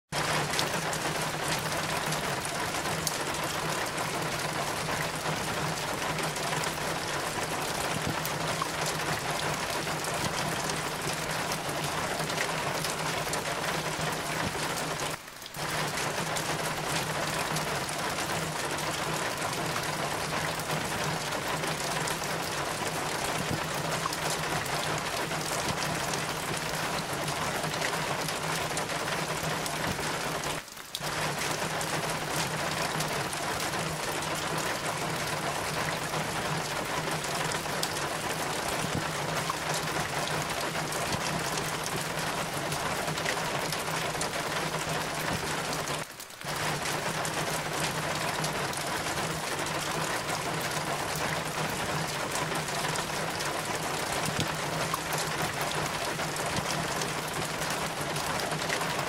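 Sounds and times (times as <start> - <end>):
steady rain falling: 0.1 - 59.0.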